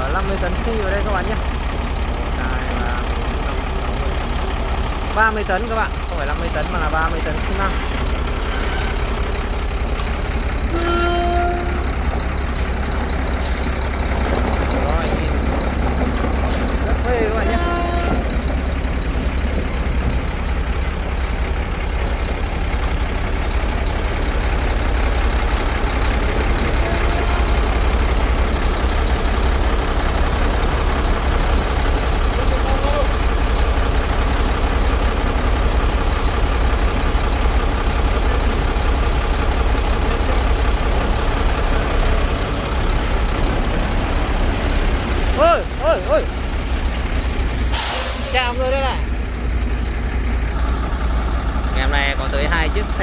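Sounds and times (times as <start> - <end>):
truck diesel engine rumbling: 0.0 - 53.0.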